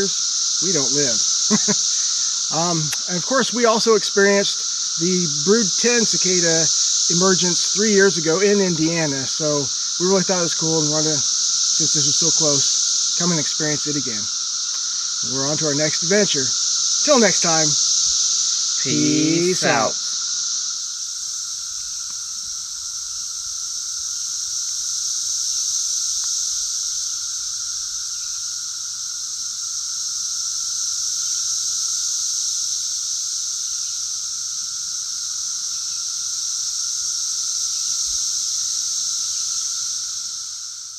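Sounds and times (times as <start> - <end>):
cicadas chorus drone: 0.0 - 40.9.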